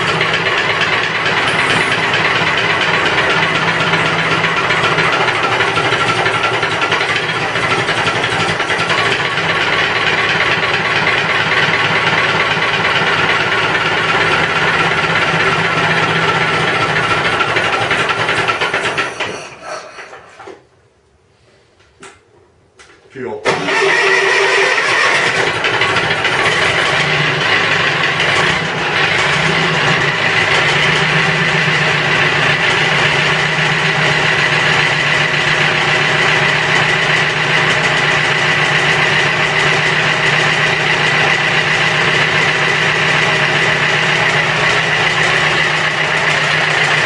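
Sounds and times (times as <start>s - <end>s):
tractor engine running: 0.0s - 19.5s, 23.5s - 47.0s.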